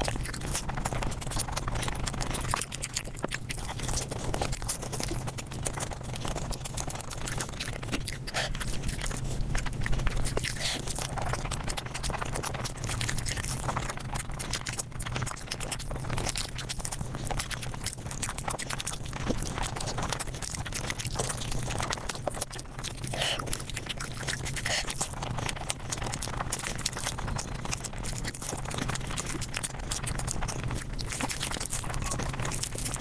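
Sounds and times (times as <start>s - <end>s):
sped-up chewing and crunching: 0.0s - 33.0s.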